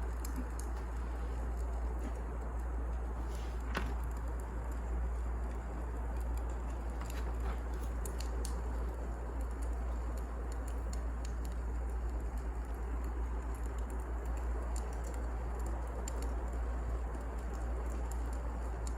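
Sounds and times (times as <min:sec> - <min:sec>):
fire crackling and popping: 0:00.0 - 0:18.9
fire rushing: 0:00.0 - 0:18.9.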